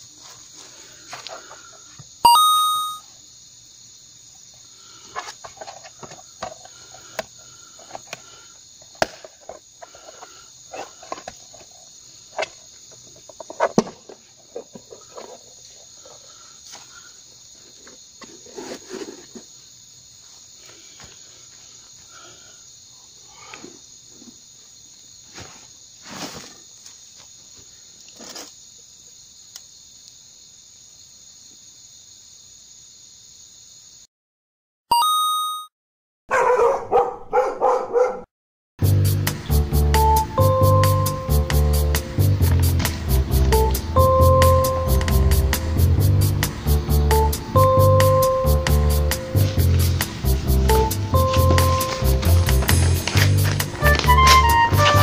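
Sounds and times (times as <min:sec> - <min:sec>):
crickets chirring: 0:00.0 - 0:34.1, 0:38.9 - 0:55.0.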